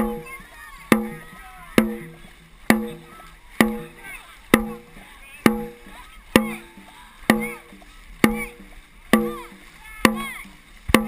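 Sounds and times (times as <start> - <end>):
voices calling out: 0.0 - 10.9
booming drum beats: 0.0 - 11.0.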